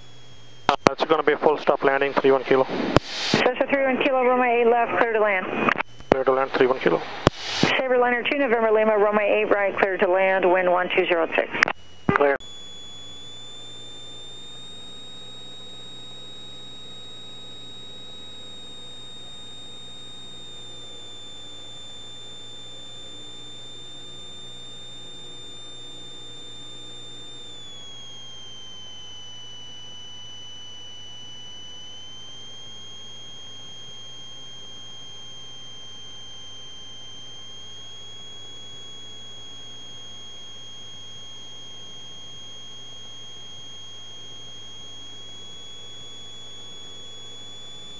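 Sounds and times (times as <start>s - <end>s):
high electrical whine: 0.0s - 47.9s.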